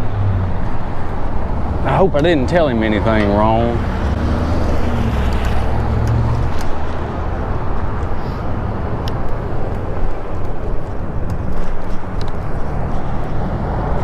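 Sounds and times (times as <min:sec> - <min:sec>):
road noise: 0:00.0 - 0:14.0
wind buffeting: 0:00.0 - 0:14.0.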